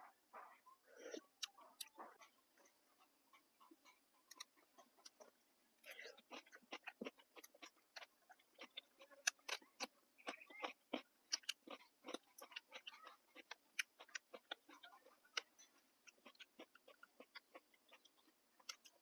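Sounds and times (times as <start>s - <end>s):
person chewing: 1.0s - 19.0s.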